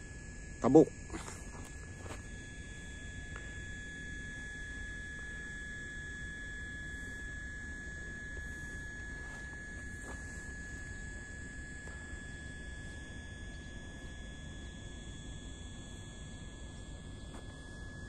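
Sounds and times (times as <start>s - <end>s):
constant low rumble: 0.0s - 18.0s
thin high-pitched whine: 0.0s - 18.0s.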